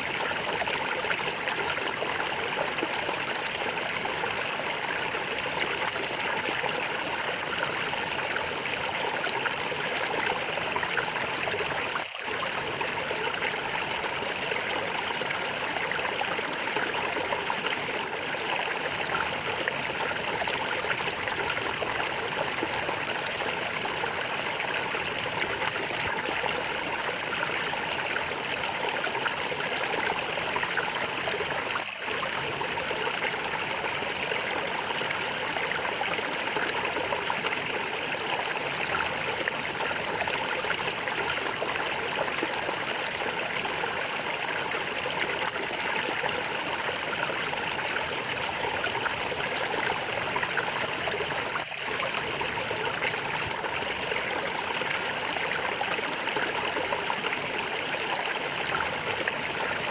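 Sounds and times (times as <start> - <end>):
water gurgling and trickling: 0.0 - 59.9.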